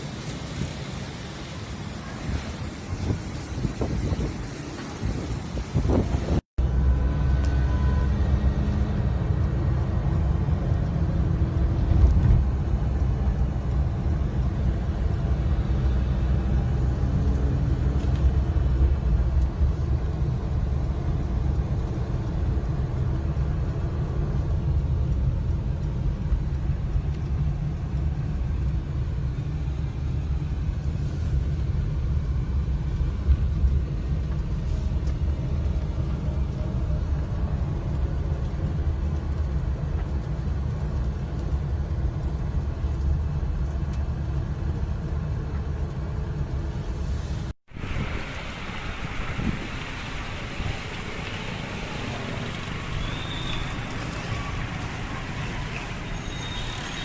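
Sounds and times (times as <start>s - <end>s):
wind gusting against microphone: 0.0s - 6.5s, 8.4s - 56.8s.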